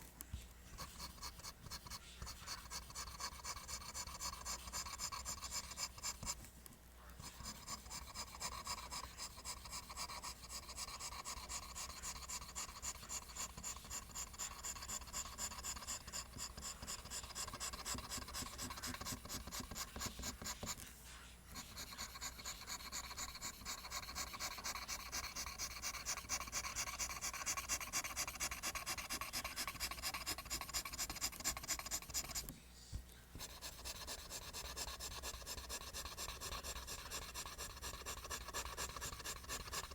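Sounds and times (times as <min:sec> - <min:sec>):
pencil scratching on paper: 0:00.7 - 0:06.4, 0:07.1 - 0:20.9, 0:21.5 - 0:32.5, 0:33.4 - 0:39.9.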